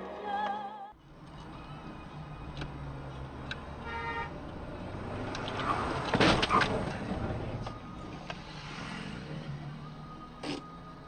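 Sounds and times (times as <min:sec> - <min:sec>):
car driving noise: 0:01.0 - 0:11.0.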